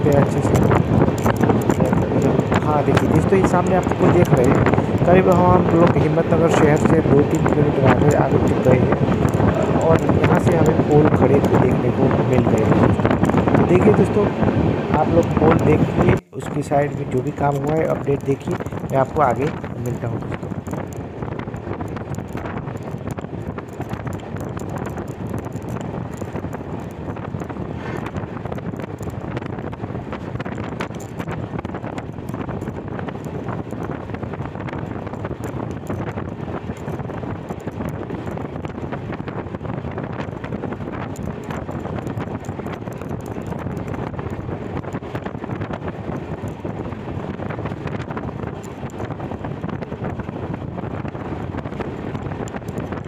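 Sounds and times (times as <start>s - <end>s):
train running noise: 0.0s - 53.0s
wind buffeting microphone: 0.0s - 53.0s.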